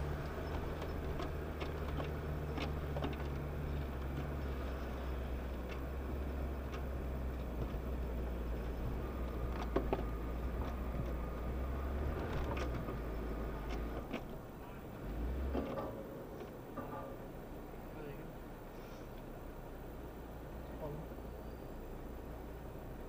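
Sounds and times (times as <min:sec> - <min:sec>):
off-road engine rumbling: 0:00.0 - 0:23.0.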